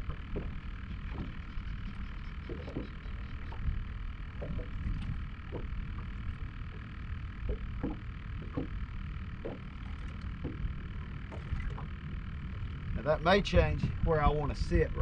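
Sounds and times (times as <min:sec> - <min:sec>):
water lapping against boat hull: 0:00.0 - 0:14.3
wind rumble on microphone: 0:00.0 - 0:15.0.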